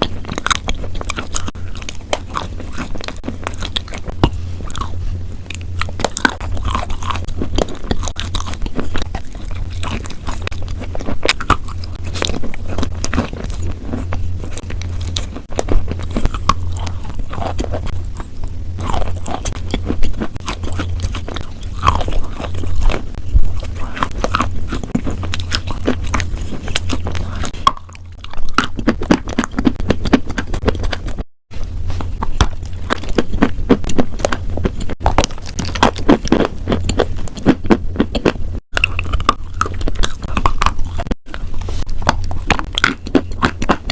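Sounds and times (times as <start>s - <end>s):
chewing crunchy food: 0.0s - 43.9s
low steady hum: 0.0s - 43.9s.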